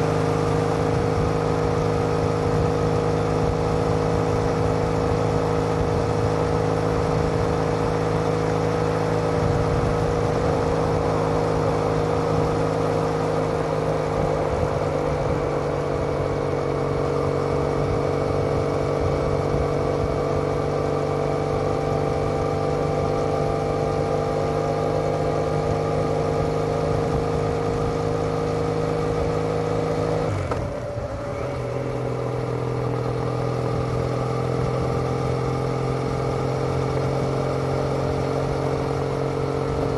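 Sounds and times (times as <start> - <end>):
motorcycle exhaust at steady revs: 0.0 - 39.9.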